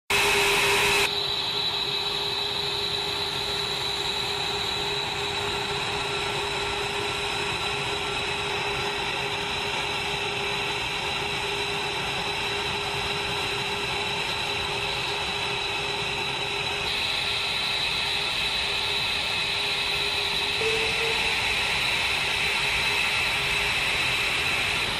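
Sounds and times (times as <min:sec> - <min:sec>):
jet engine whine: 0:00.1 - 0:24.9.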